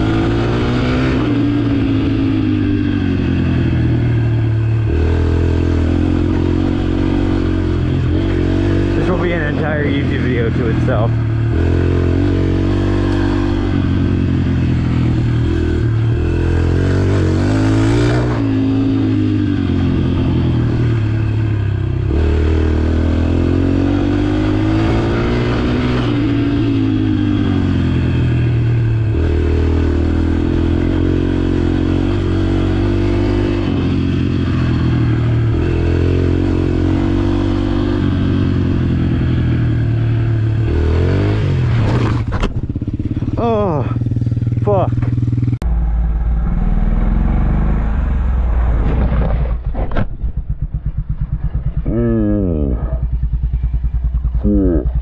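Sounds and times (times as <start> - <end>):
dirt bike engine revving: 0.0 - 48.4, 50.3 - 55.0.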